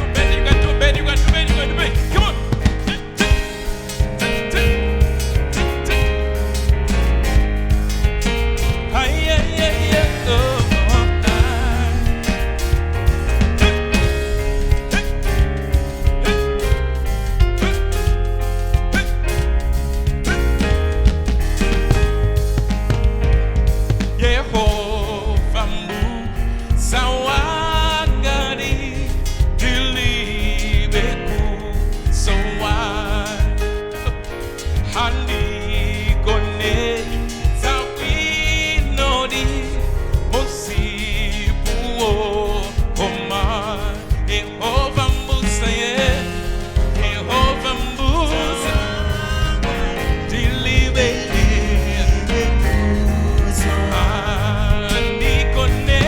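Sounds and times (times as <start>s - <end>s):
band with bass and beat: 0.0s - 56.0s
people singing: 0.0s - 56.0s.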